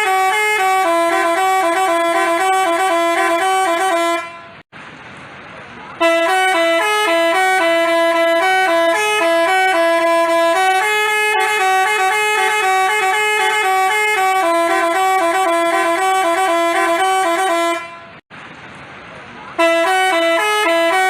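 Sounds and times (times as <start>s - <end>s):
bus horn playing a tune: 0.0s - 4.7s, 6.0s - 18.2s, 19.6s - 21.0s.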